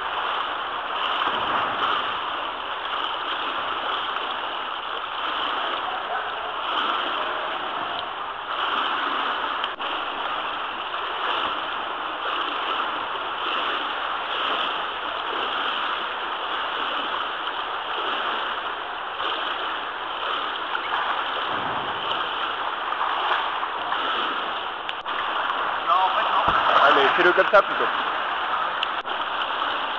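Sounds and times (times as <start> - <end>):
paddle blades dipping into water: 0.0 - 29.9
rush of water: 0.0 - 29.9.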